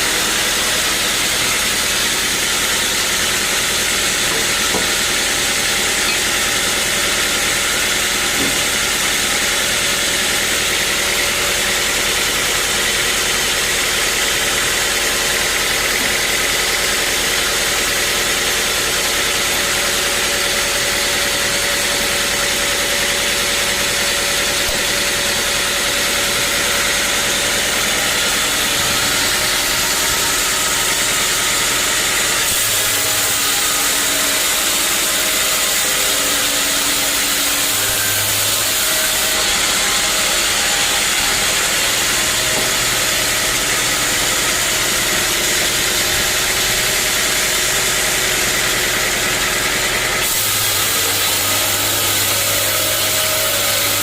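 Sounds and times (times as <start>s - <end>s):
sawmill engine and blade running: 0.0s - 54.0s.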